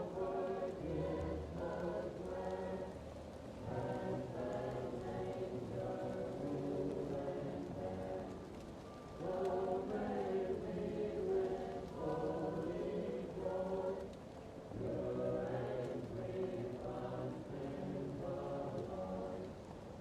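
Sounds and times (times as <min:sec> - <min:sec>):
faint fireplace crackle: 0:00.0 - 0:20.0
muffled choir singing: 0:00.0 - 0:20.0.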